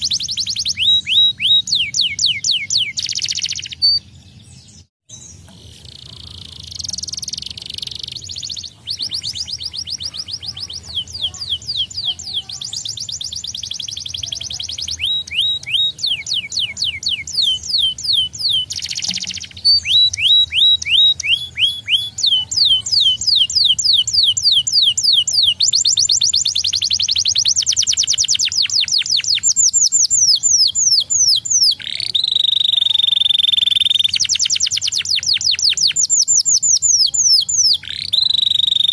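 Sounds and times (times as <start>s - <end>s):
canary singing rapid trills: 0.0s - 38.9s.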